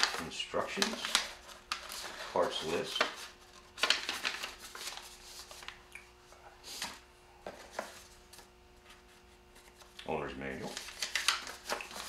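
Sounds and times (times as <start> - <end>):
paper sheets rustling: 0.0 - 5.8, 6.6 - 12.0.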